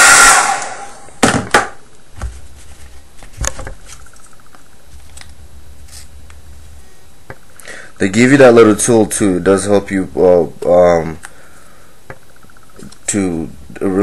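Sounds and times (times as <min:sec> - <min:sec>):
faint low hum: 0:01.7 - 0:14.0.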